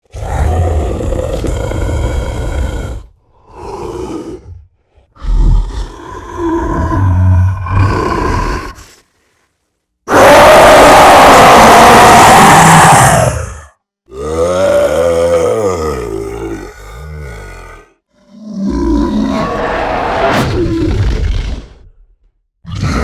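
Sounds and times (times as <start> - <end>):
monster roaring and growling: 0.0 - 8.9, 10.1 - 22.0, 22.7 - 23.0.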